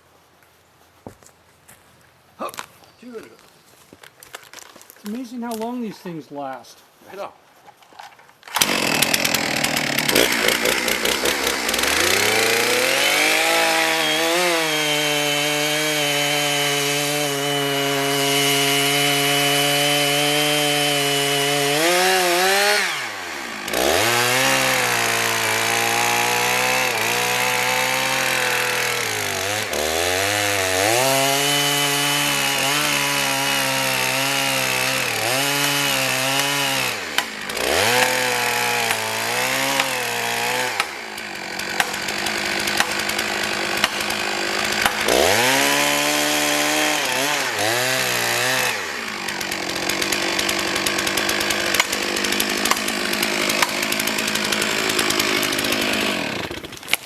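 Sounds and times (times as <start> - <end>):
chainsaw cutting wood: 4.3 - 5.9, 8.0 - 57.0.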